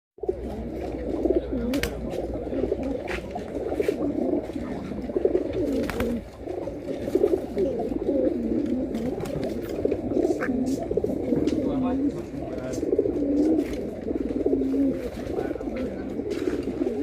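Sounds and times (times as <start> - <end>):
pigeons cooing: 0.2 - 17.0.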